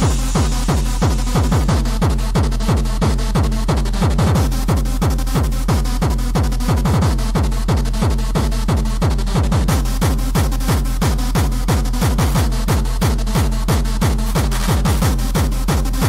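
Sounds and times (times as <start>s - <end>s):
distorted kick drums: 0.0s - 16.0s
hardcore techno music: 0.0s - 16.0s.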